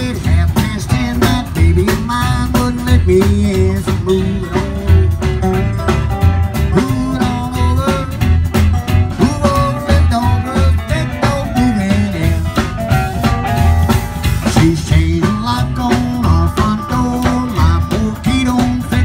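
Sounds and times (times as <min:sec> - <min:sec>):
bass beat: 0:00.0 - 0:19.0
country band playing: 0:00.0 - 0:19.0
guitar: 0:00.0 - 0:19.0.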